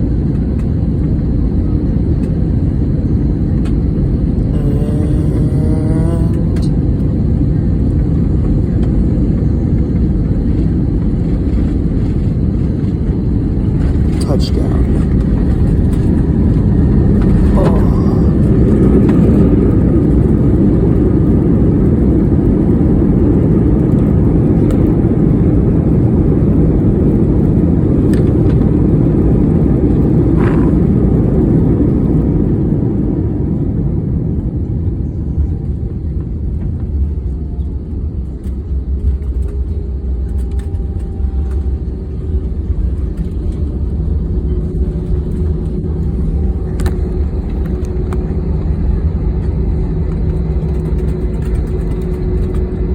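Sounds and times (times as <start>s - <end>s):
jet cabin engine roar: 0.0s - 52.9s.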